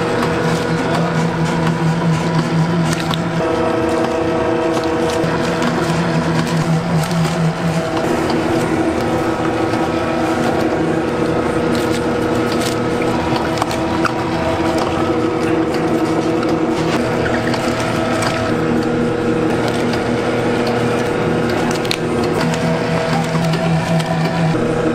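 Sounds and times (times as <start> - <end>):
motorised machine humming: 0.0 - 24.9.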